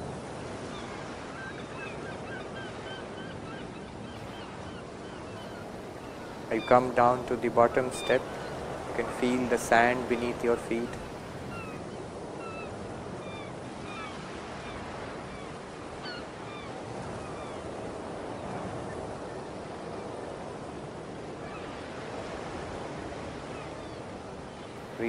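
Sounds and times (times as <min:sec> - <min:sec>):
ocean waves: 0:00.0 - 0:25.0.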